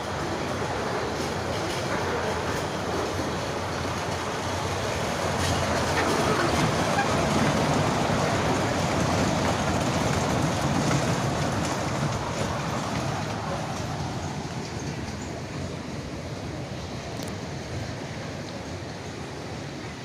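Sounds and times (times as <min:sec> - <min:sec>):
ride-on train rumbling and rattling: 0:00.0 - 0:20.0.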